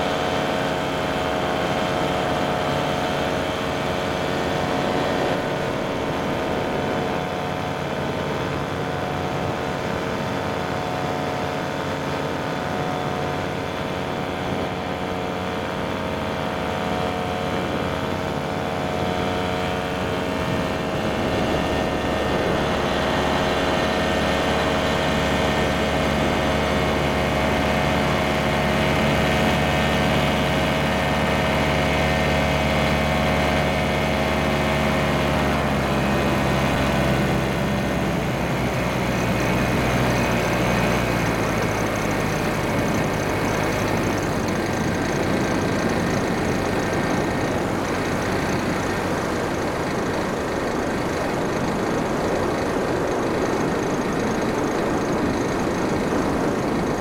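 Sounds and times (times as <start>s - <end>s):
paraglider engine and propeller: 0.0s - 57.0s.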